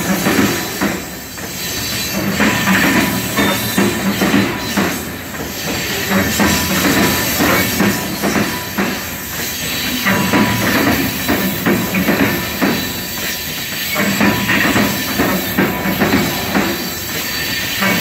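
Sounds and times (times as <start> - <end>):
train wheels clacking over rail joints: 0.0 - 18.0.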